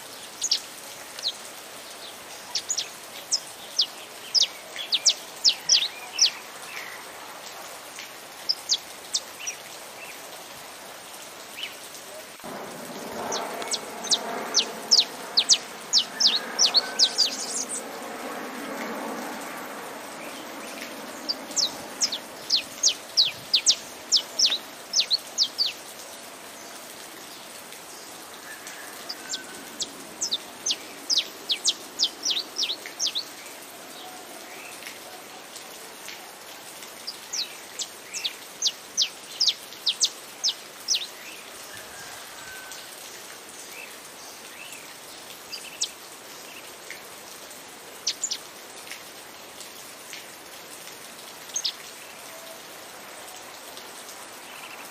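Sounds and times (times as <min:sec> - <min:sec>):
rain hissing: 0:00.0 - 0:54.9.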